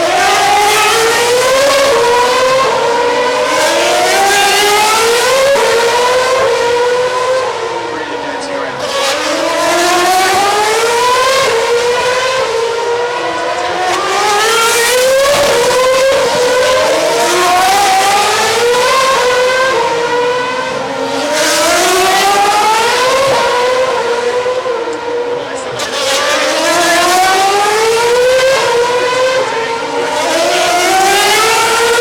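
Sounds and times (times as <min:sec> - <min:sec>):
racing car engines at high revs: 0:00.0 - 0:32.0.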